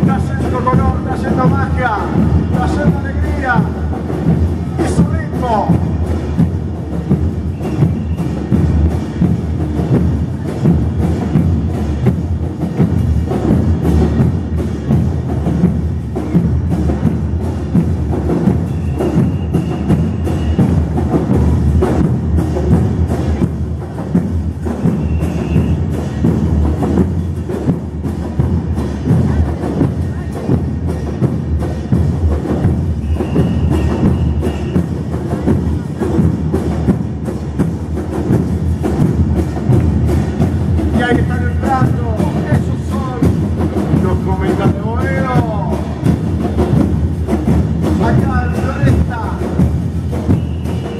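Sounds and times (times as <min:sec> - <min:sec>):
bass drums with cymbal: 0:00.0 - 0:50.9
snare drums: 0:00.0 - 0:50.9.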